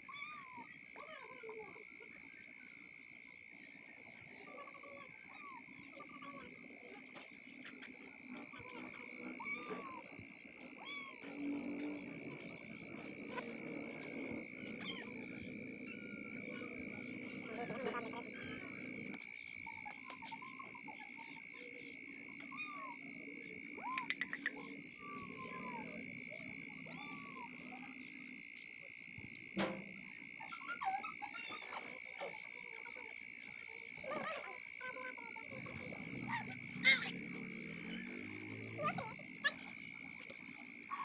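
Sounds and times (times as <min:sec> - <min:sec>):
high-pitched animal chorus: 0:00.0 - 0:41.0.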